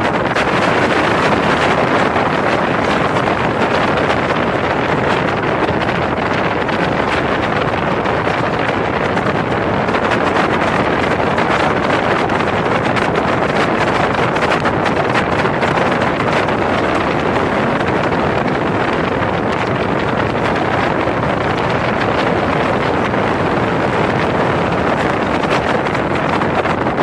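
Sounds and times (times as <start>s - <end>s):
speedboat engine and water rush: 0.0s - 27.0s
wind buffeting microphone: 0.0s - 27.0s.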